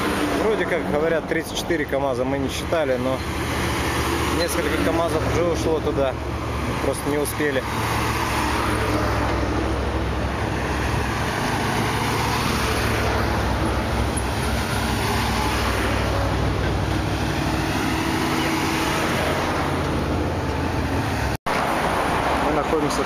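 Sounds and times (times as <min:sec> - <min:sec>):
tyre and road noise: 0:00.0 - 0:23.0
vehicle engine hum: 0:00.0 - 0:23.0.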